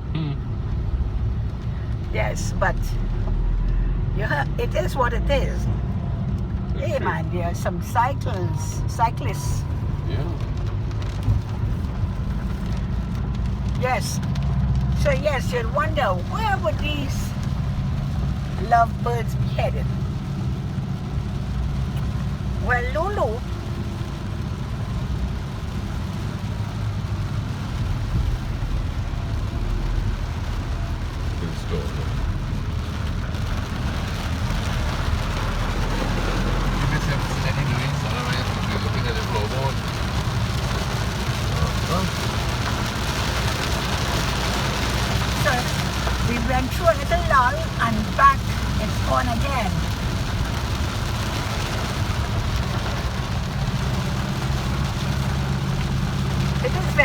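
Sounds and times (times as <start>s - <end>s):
rain and wet tyres hissing: 0.0s - 57.0s
vehicle engine and road rumble: 0.0s - 57.0s.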